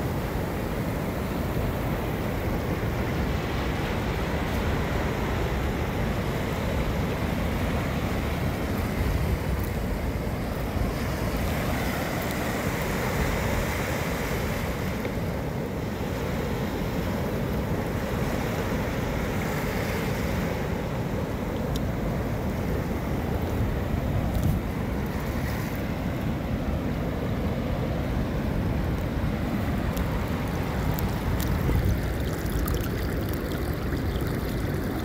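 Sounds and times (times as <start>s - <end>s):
surf washing onto beach: 0.0s - 35.0s
wind rumbling on microphone: 0.0s - 35.0s.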